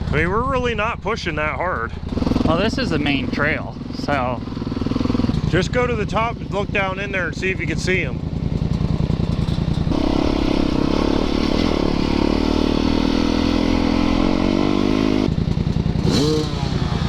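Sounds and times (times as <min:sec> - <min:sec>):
dirt bike engine revving and idling: 0:00.0 - 0:17.0.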